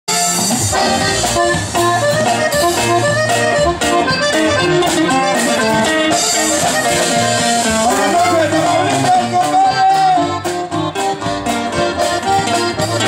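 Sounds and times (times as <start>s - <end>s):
bass: 0.1s - 13.0s
button accordion melody: 0.1s - 13.0s
drum kit beat: 0.1s - 13.0s
strummed guitars: 0.1s - 13.0s.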